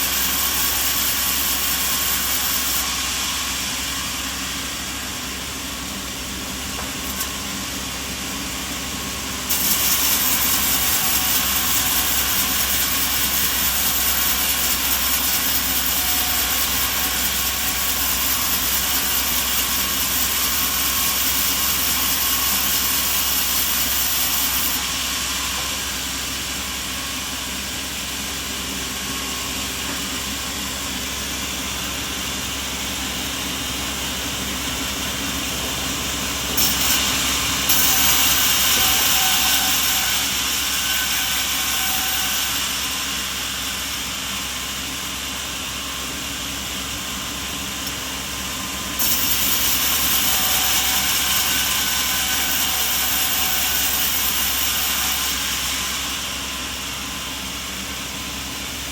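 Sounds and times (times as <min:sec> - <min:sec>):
mechanical running noise with hiss: 0:00.0 - 0:58.9.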